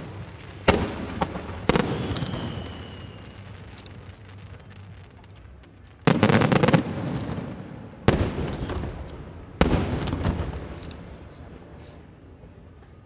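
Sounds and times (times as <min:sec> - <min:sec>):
firework bangs: 0:00.0 - 0:12.8
firework crackles: 0:00.0 - 0:13.0.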